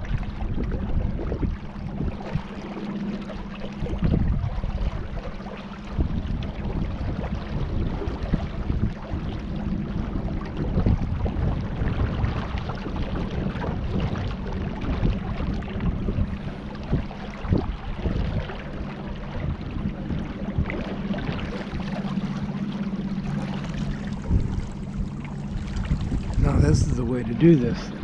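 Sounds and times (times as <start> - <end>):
steady low hum: 0.0 - 28.0
water splashing around a kayak: 0.0 - 28.0
wind buffeting microphone: 0.0 - 28.0.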